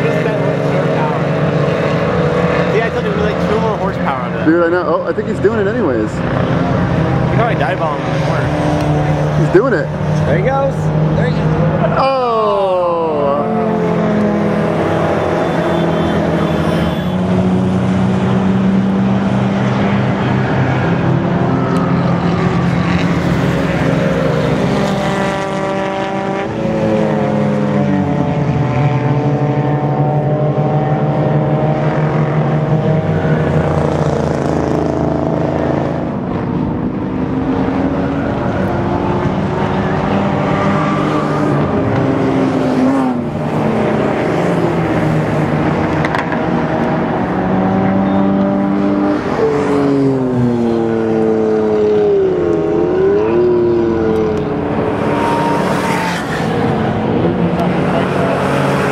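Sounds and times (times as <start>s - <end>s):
race car engines: 0.0s - 58.9s.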